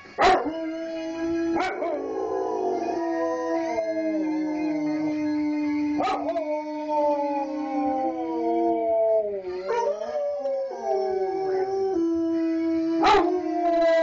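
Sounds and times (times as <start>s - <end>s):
dogs howling: 0.0s - 14.0s.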